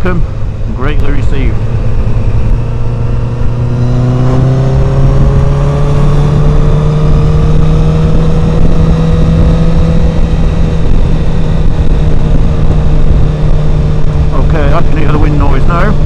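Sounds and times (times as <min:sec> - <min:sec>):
motorcycle engine: 0:00.0 - 0:16.0
wind rumble on microphone: 0:00.0 - 0:16.0.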